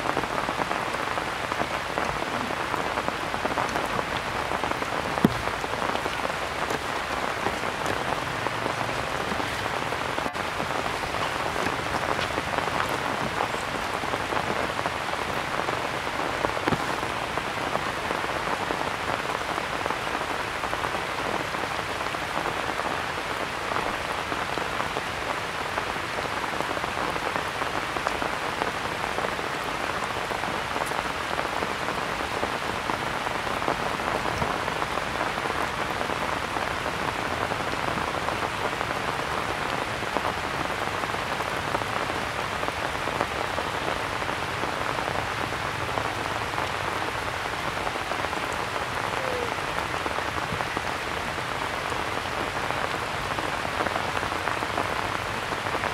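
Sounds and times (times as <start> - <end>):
rain on grass and leaves: 0.0 - 55.9.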